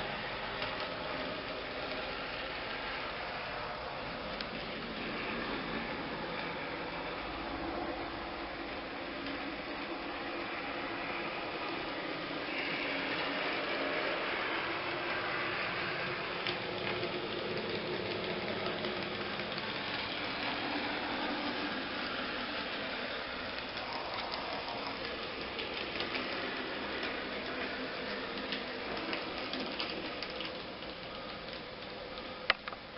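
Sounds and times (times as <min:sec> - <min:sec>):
model train wheel noise: 0:00.0 - 0:32.9.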